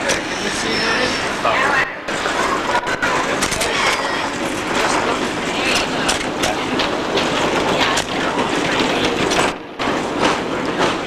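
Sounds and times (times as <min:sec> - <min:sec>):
rail car clattering on track: 0:00.0 - 0:11.0.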